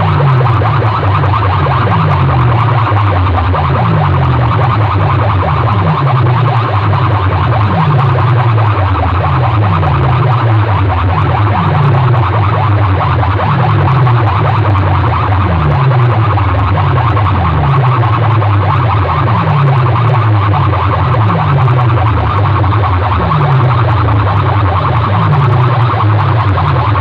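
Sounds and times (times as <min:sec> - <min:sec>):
loud dance music over loudspeakers: 0:00.0 - 0:27.0
sliding bass tone: 0:00.0 - 0:27.0.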